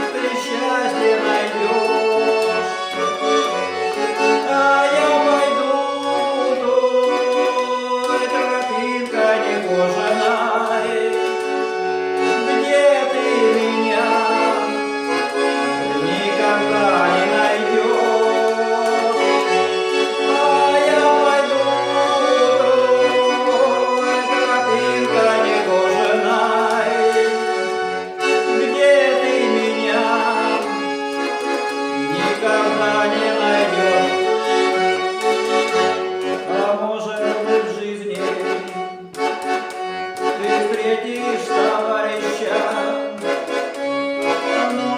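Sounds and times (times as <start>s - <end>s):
accordion music: 0.0s - 44.9s.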